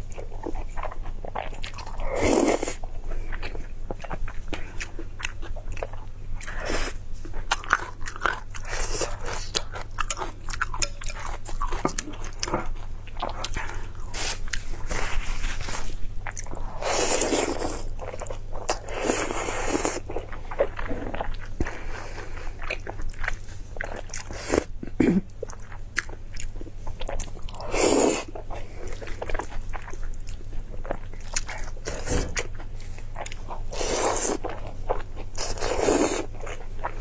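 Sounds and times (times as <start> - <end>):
chewing and crunching food: 0.0 - 37.0.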